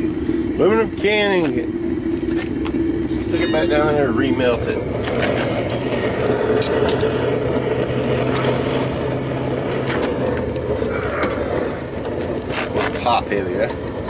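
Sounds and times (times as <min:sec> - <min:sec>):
propane burner roaring: 0:00.0 - 0:14.0.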